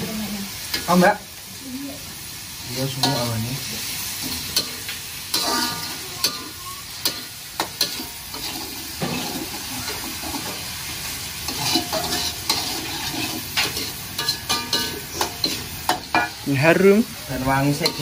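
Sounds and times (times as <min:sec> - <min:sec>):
paste sizzling in hot oil: 0:00.0 - 0:18.0.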